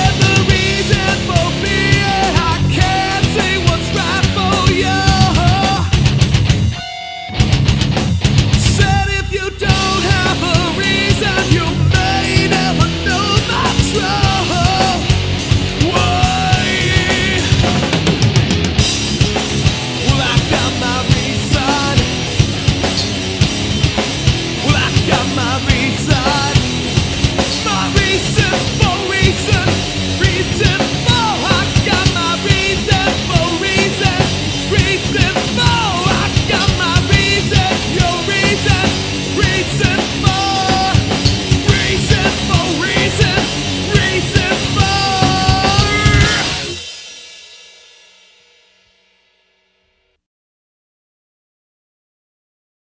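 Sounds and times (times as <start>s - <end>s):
rock band playing: 0.0s - 48.0s
driving drum beat: 0.0s - 48.6s.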